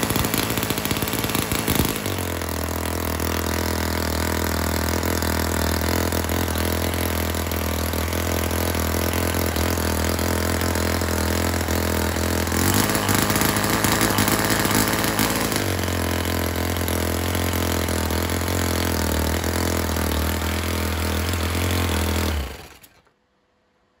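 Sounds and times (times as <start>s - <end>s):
model engine running: 0.0s - 23.1s.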